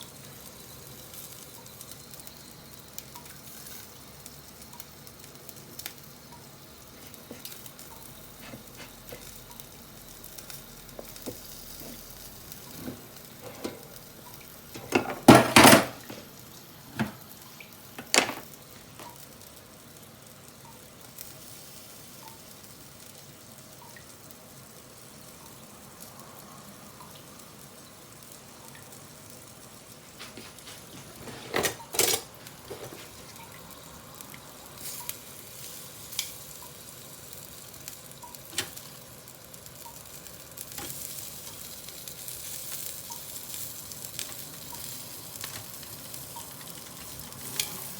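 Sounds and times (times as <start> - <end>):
skewers sizzling on a grill: 0.0 - 47.9.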